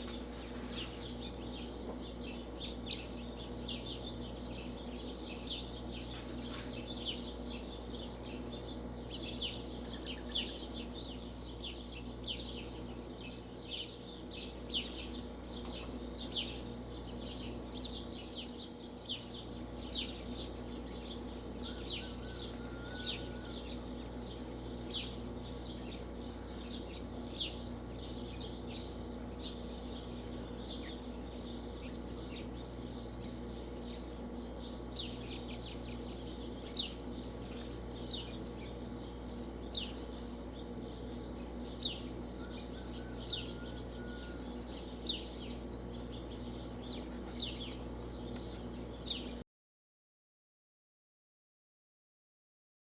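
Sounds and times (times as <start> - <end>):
steady low hum: 0.0 - 49.4
quail chirping: 0.1 - 49.4.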